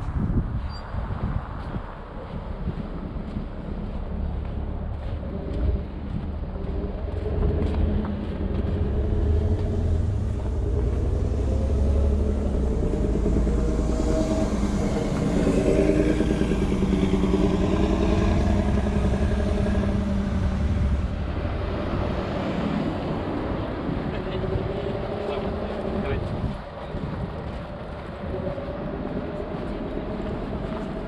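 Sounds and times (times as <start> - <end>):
low traffic rumble: 0.0 - 31.0
vehicle engine passing: 1.2 - 31.0.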